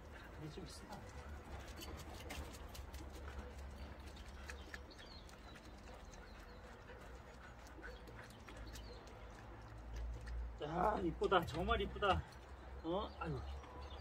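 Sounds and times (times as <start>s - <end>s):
dog claws tapping on pavement: 0.1s - 12.7s.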